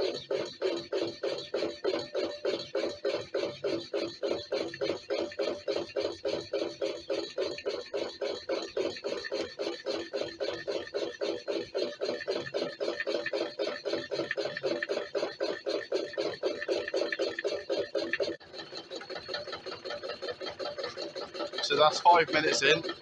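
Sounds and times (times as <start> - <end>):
stirling engine knocking and grinding: 0.0 - 23.0.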